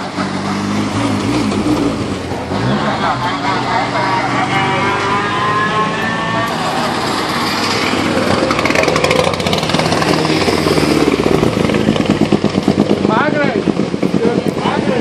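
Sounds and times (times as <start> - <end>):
choppy pulsing exhaust: 0.0 - 15.0
rally cars driving past: 0.0 - 15.0.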